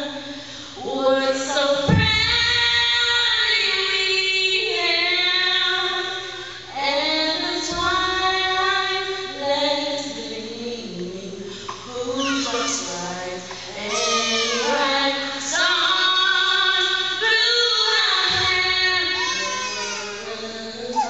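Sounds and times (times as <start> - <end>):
woman singing into microphone: 0.0 - 21.0.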